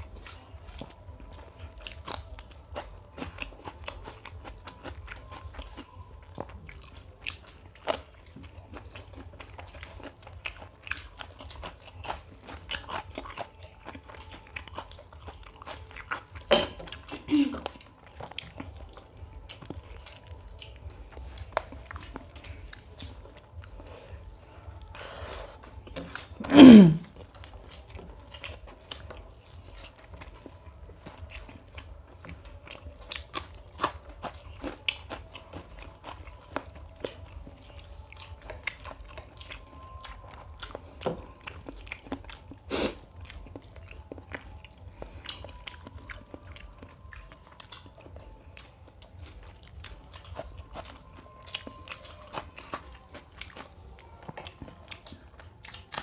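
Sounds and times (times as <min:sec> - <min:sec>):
chewing and mouth noises: 0:00.0 - 0:56.0.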